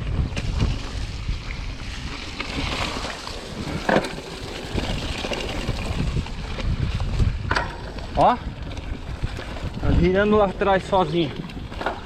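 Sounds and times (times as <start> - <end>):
wind buffeting microphone: 0.0 - 2.7, 4.6 - 12.0
bike knocking and rattling: 0.0 - 12.0.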